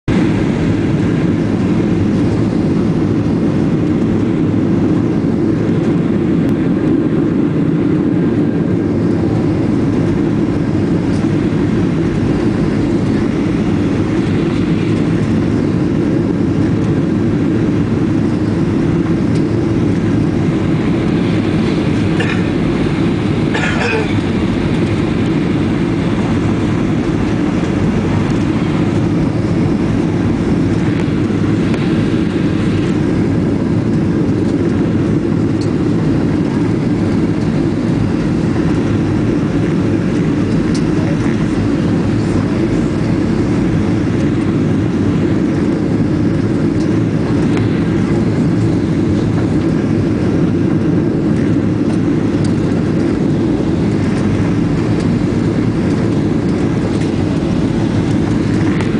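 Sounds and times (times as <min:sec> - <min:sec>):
jet engines low rumble: 0:00.0 - 0:58.9.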